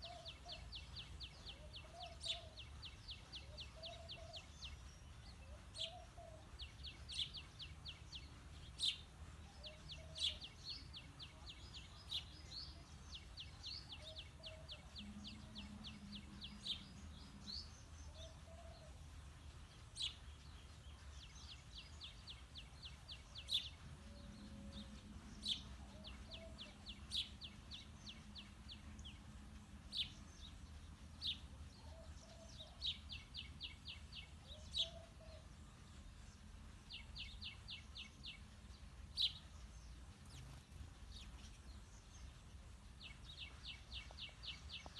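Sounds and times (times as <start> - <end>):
sparrows chirping: 0.0 - 44.9.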